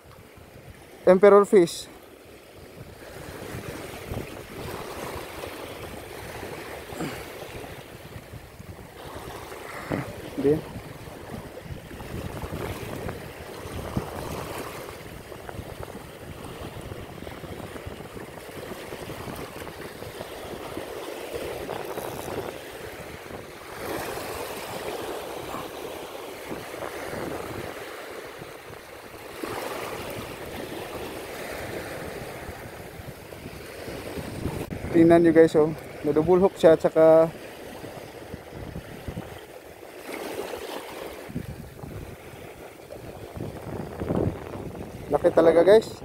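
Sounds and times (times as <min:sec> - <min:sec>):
surf washing over rocks: 0:00.0 - 0:46.0.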